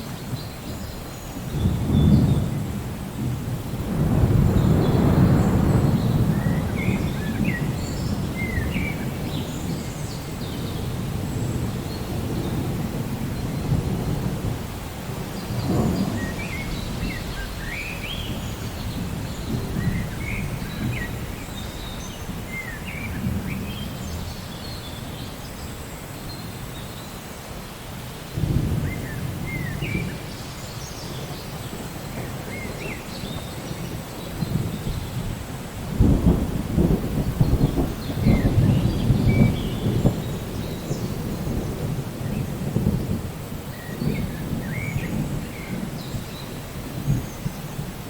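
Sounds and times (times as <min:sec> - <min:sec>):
steady rain: 0:00.0 - 0:48.0
rolling thunder: 0:01.4 - 0:24.4, 0:28.3 - 0:48.0.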